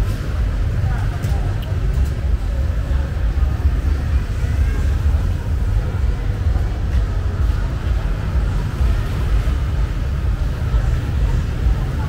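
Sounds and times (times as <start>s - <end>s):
faint voices: 0.0s - 12.0s
low street rumble: 0.0s - 12.0s.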